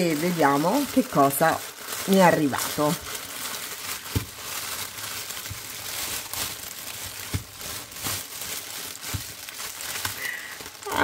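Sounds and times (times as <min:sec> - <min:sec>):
plastic bag crinkling and tearing: 0:00.0 - 0:11.0.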